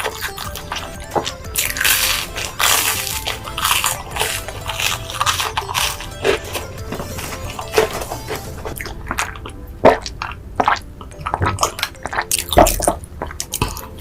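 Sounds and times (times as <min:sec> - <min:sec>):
sharp crunches: 0:00.0 - 0:14.0
wet chewing and biting: 0:00.0 - 0:14.0.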